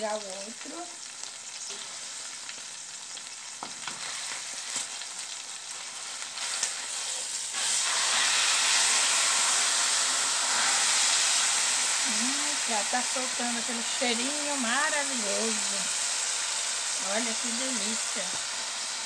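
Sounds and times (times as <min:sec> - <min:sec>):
meat sizzling in a pot: 0:00.0 - 0:19.0.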